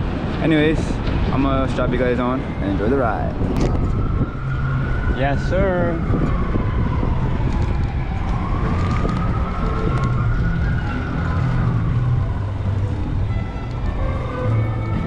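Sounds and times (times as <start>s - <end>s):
wind rumble on microphone: 0.0s - 15.0s
emergency siren wailing: 2.0s - 15.0s.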